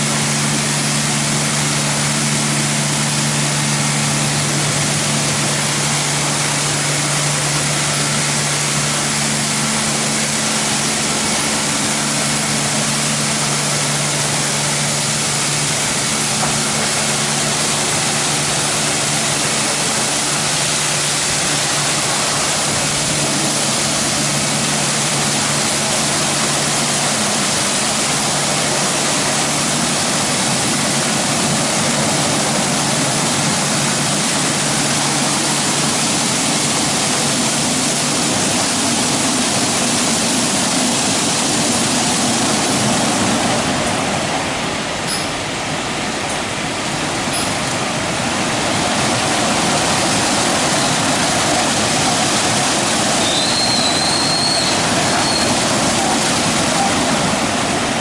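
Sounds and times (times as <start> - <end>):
low machine hum: 0.0 - 58.0
water spray rushing: 0.0 - 58.0.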